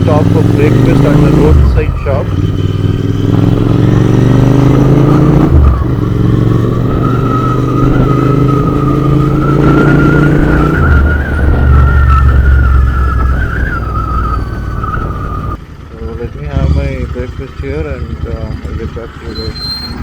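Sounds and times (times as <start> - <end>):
motorcycle engine slowing: 0.0 - 20.0.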